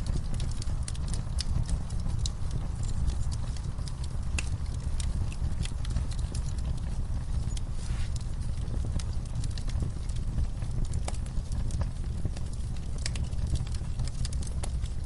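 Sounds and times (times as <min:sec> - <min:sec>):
sharp pops and snaps: 0:00.0 - 0:14.9
deep rumble of flame: 0:00.0 - 0:15.0
wood fire crackling: 0:00.0 - 0:15.0.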